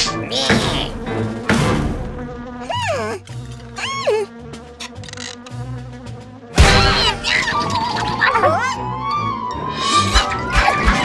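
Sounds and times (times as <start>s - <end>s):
cartoon bees buzzing: 0.0s - 10.2s
light background music: 0.0s - 11.0s.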